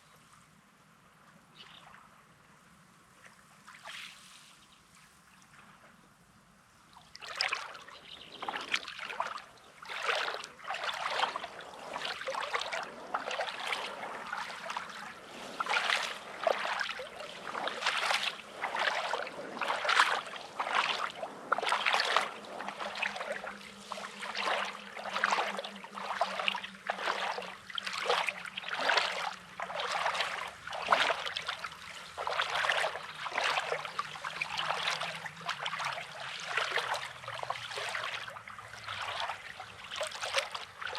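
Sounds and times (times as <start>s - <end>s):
small waves washing: 6.9s - 40.9s.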